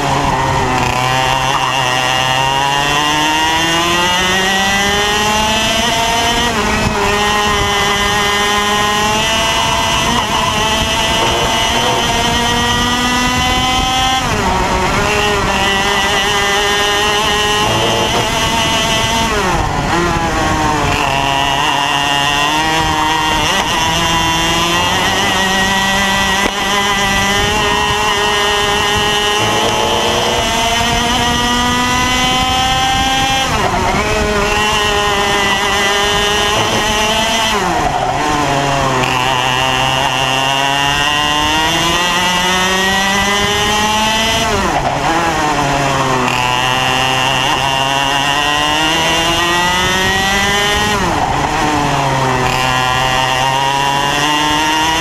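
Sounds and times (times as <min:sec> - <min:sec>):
kart engine at full throttle: 0:00.0 - 0:55.0.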